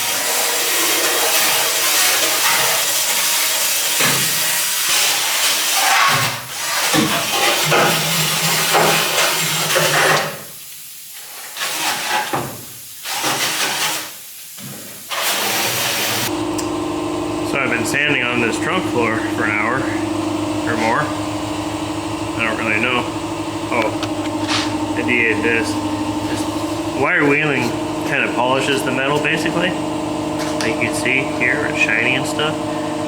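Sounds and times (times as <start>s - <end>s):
power tool grinding sheet metal: 0.0s - 10.2s, 15.1s - 16.4s, 17.4s - 33.0s.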